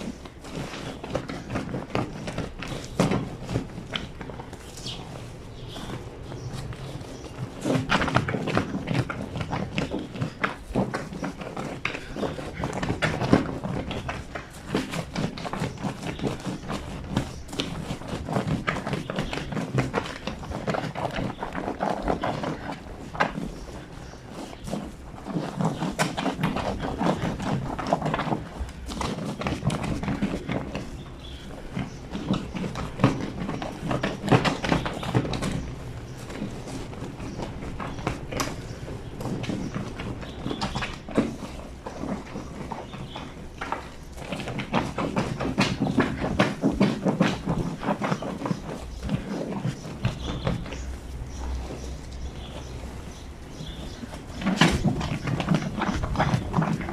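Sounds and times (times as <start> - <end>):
wet blanket scrubbed on washboard: 0.0 - 56.9.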